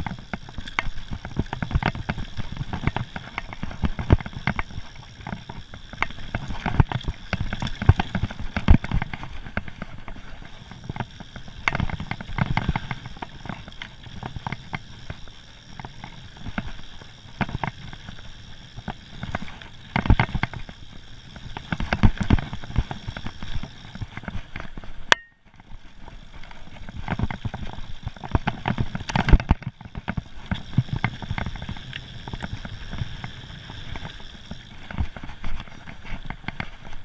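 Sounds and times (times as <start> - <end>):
bike rattles and knocks: 0.0 - 37.0
bike tyres on gravel trail: 0.0 - 37.0.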